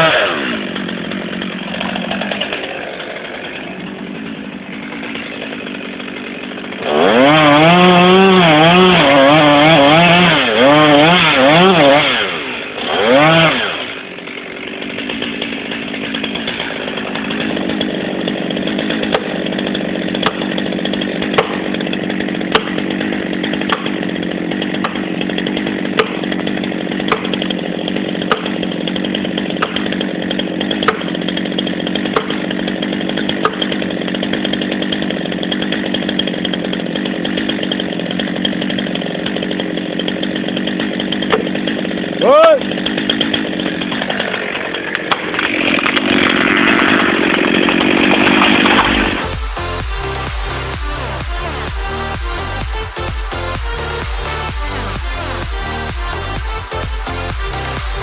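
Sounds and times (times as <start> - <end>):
chainsaw running: 0.0 - 58.0.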